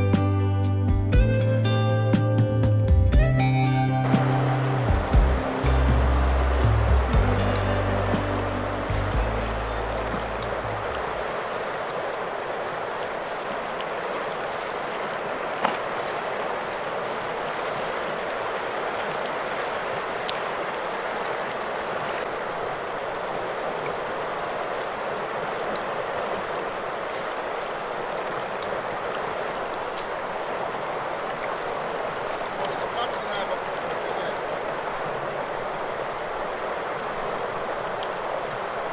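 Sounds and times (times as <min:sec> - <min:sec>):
river water rushing: 0:04.0 - 0:38.9.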